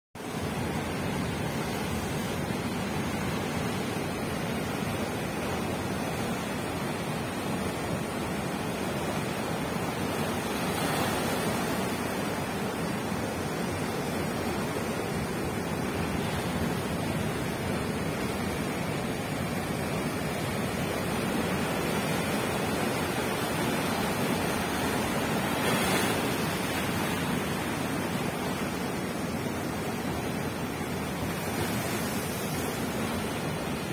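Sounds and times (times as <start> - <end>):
ocean surf breaking on shore: 0.2 - 33.9.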